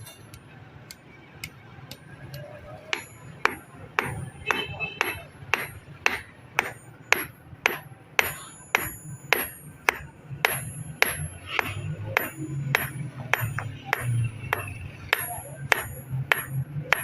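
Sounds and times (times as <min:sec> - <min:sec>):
hammer striking iron on anvil: 0:01.9 - 0:17.0.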